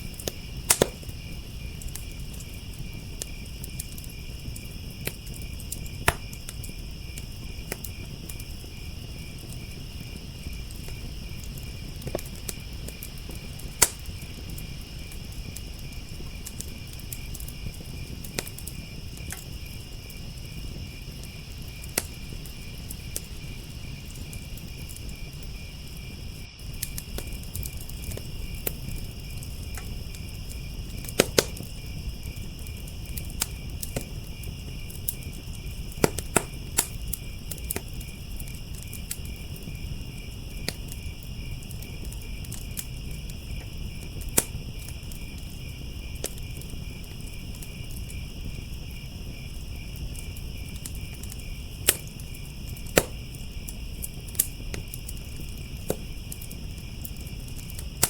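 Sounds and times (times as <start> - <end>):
crickets chirping: 0.0 - 58.0
wood fire crackling: 0.0 - 58.0.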